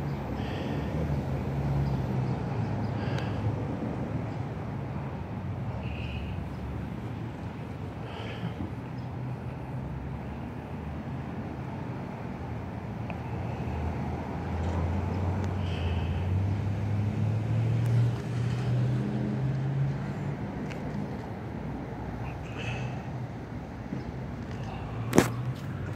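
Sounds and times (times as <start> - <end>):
street traffic noise: 0.0 - 25.9
vehicle engine hum: 0.0 - 25.9.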